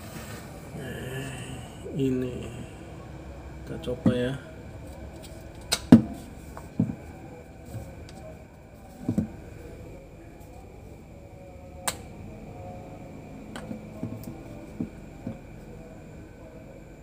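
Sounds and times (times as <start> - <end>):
faint room noise: 0.0 - 17.0.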